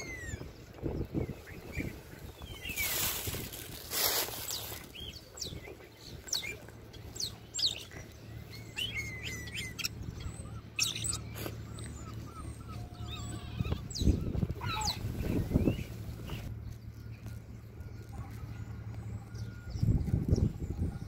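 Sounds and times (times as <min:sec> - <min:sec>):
starlings whistling and chirping: 0:00.0 - 0:21.0.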